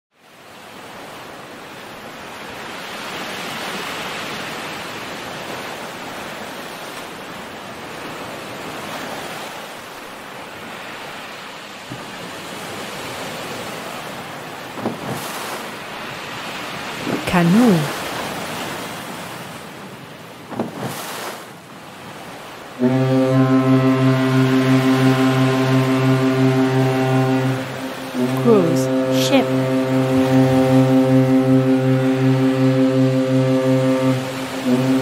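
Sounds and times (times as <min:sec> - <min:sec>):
surf rushing water: 0:00.2 - 0:35.0.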